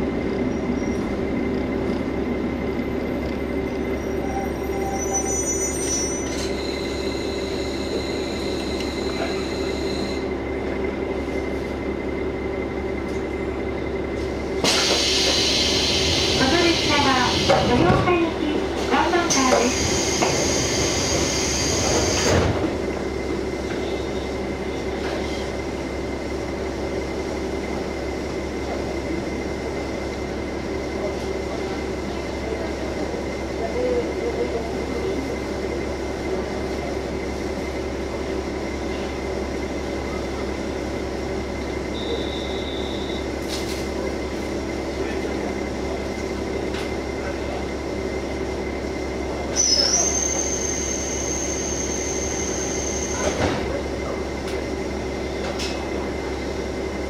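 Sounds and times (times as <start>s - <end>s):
diesel railcar running: 0.0s - 57.0s.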